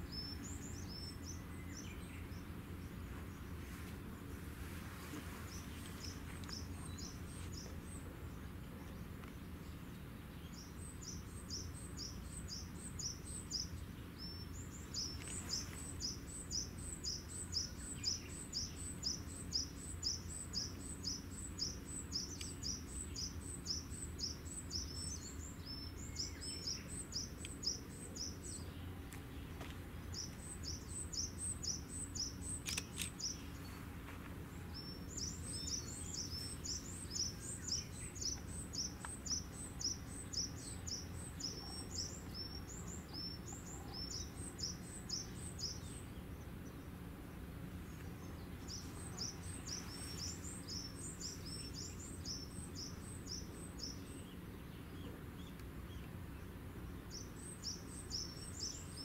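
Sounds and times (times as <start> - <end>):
low steady hum: 0.0 - 59.0
small bird chirping: 5.1 - 47.0, 47.8 - 59.0.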